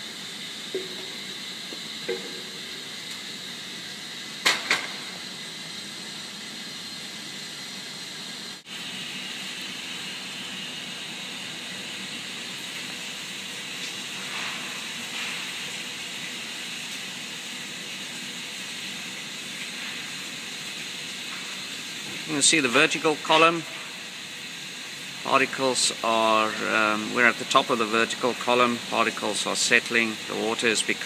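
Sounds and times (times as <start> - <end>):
industrial hall background hiss: 0.0 - 31.0.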